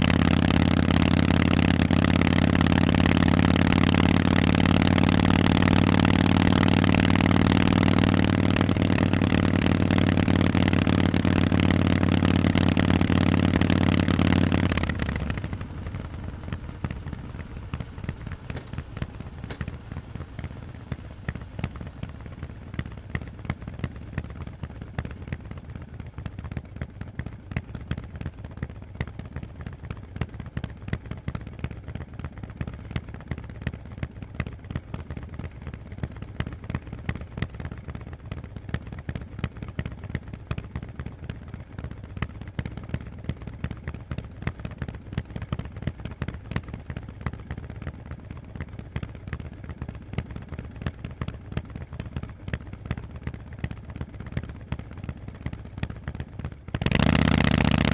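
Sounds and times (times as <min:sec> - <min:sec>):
engine ticking and clatter: 0:00.0 - 0:57.9
motorcycle engine running: 0:00.0 - 0:57.9.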